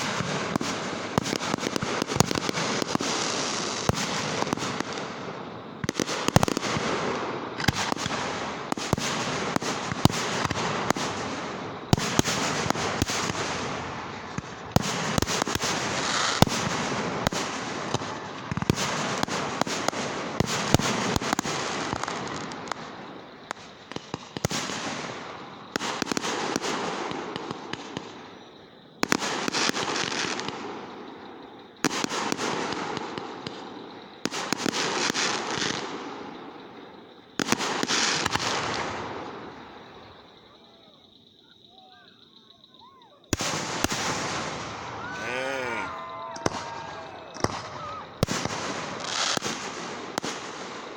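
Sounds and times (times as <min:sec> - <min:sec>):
fireworks bangs: 0:00.0 - 0:50.9
fireworks crackling: 0:00.0 - 0:50.9.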